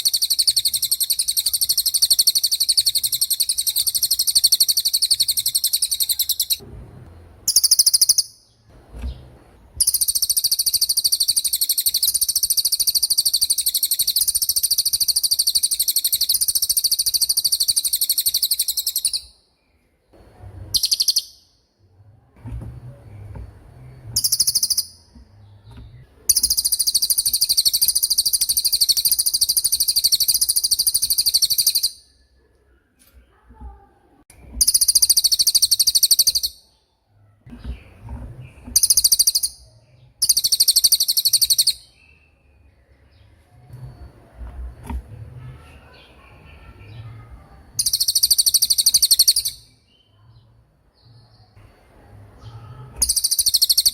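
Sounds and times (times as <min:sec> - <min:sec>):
songbird rapid high-pitched song: 0:00.0 - 0:06.6, 0:07.4 - 0:21.7, 0:22.6 - 0:32.4, 0:34.3 - 0:53.9.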